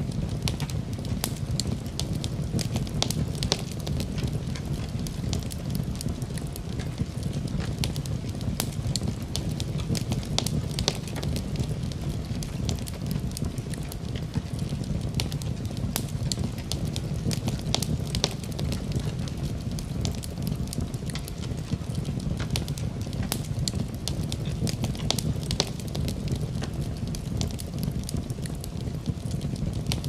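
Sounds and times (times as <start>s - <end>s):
low rumble of flames: 0.0s - 30.0s
wood fire crackling: 0.0s - 30.0s
sharp pops and snaps: 0.1s - 30.0s.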